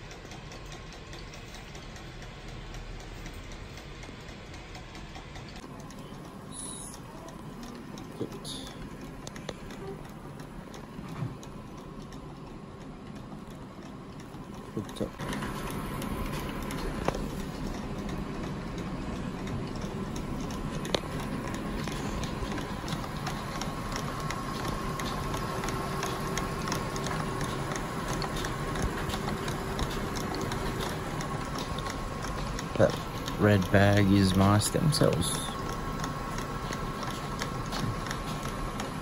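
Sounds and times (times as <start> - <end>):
fast regular ticking: 0.0 - 39.0
machine humming: 0.0 - 39.0.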